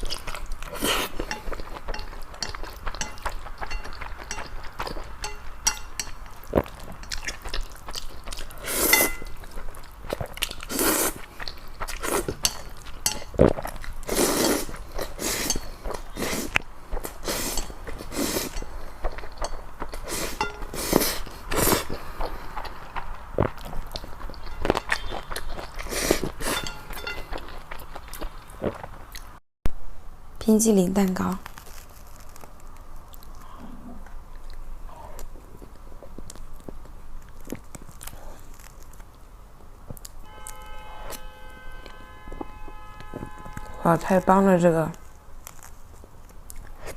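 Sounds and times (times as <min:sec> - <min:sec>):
person chewing food: 0:00.0 - 0:29.4, 0:31.6 - 0:41.2, 0:45.4 - 0:46.9.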